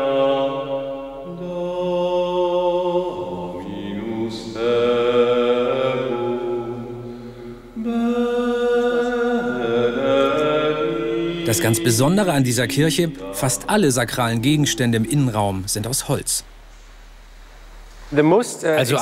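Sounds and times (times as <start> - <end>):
voices singing slow chant: 0.0 - 18.2.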